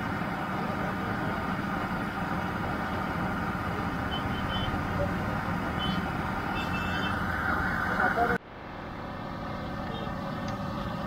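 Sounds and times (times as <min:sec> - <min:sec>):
street market din: 0:00.0 - 0:11.0.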